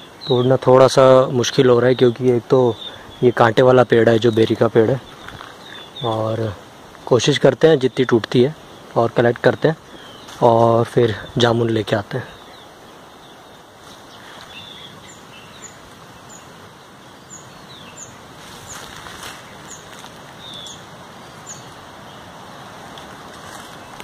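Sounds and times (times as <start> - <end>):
bird chirping: 0.0 - 24.0
leafy branches rustling: 0.0 - 24.0
steady outdoor hiss: 0.0 - 24.0.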